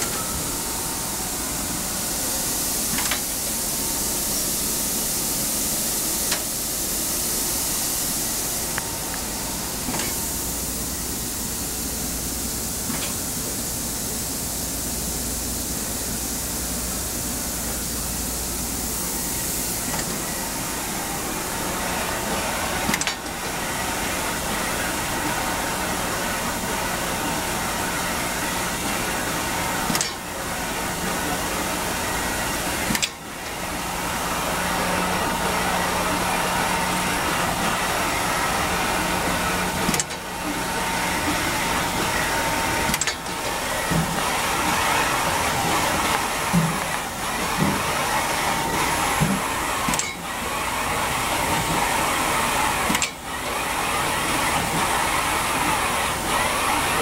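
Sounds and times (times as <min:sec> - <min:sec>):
machine whirring and humming: 0:00.0 - 0:57.0.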